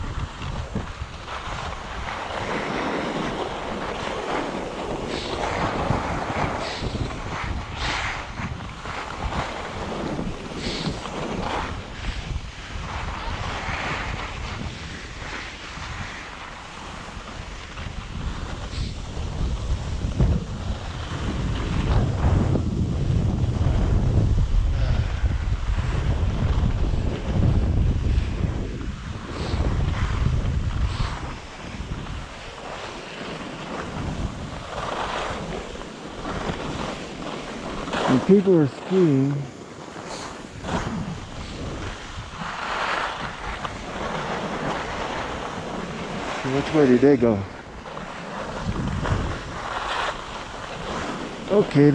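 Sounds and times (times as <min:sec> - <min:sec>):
skis swishing on snow: 0:00.0 - 0:22.5, 0:24.8 - 0:51.9
wind buffeting microphone: 0:00.0 - 0:51.9.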